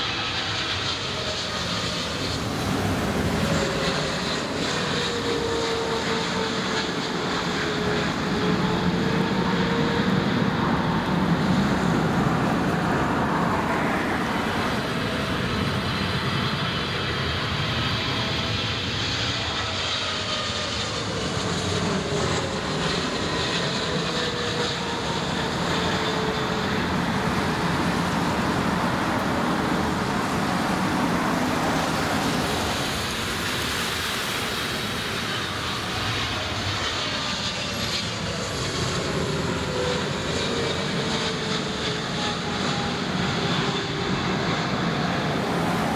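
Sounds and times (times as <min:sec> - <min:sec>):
jet engines rumbling and whining: 0:00.0 - 0:45.9.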